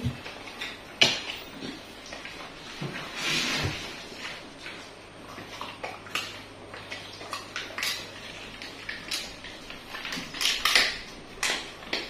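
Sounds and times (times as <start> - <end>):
dogs crunching bones: 0.0 - 3.0, 4.0 - 12.0.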